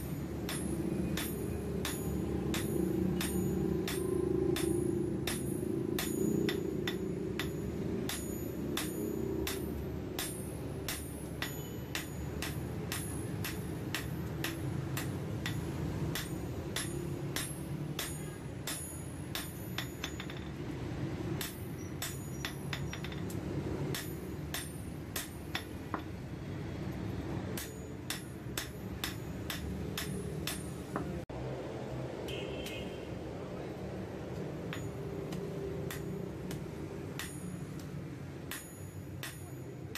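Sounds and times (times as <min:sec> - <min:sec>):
hammer striking steel on anvil: 0:00.0 - 0:26.2, 0:27.5 - 0:31.2, 0:34.3 - 0:39.9.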